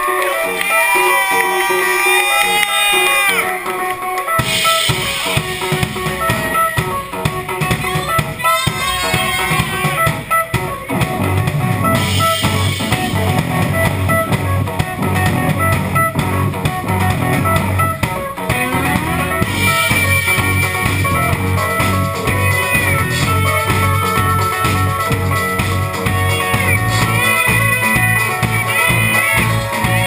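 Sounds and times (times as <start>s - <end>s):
drum kit: 0.0s - 30.0s
electric guitar: 0.0s - 30.0s
keyboard with sliding tones: 0.0s - 30.0s.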